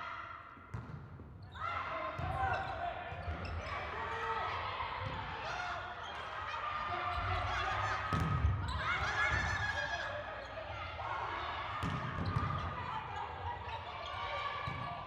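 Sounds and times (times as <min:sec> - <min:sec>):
voices calling in a hall: 0:00.0 - 0:00.7, 0:01.4 - 0:15.0.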